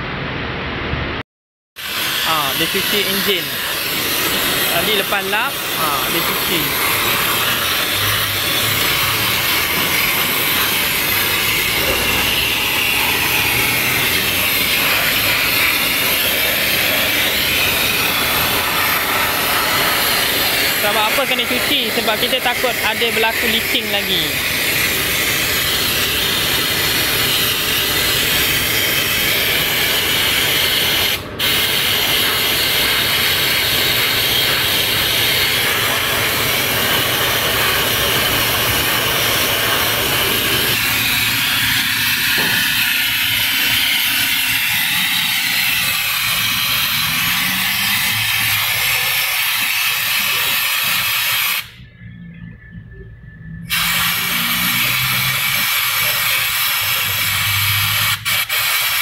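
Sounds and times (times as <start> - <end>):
pressure spray hissing: 1.8 - 51.8, 53.7 - 59.0.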